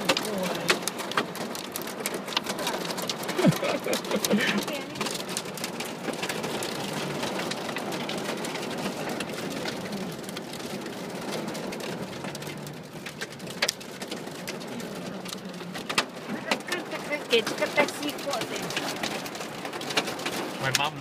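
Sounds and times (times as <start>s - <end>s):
hail hitting: 0.0s - 21.0s
heavy rain hissing: 0.0s - 21.0s.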